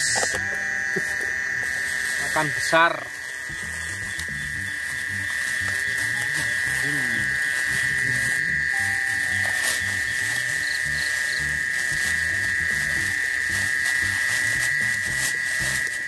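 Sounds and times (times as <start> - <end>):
insect chorus buzzing: 0.0 - 16.0
low pulsing calls: 0.0 - 16.0.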